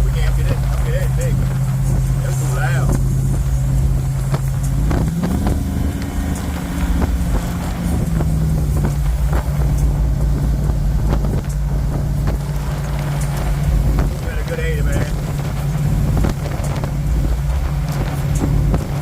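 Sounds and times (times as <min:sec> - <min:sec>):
loud car exhaust while driving: 0:00.0 - 0:19.0.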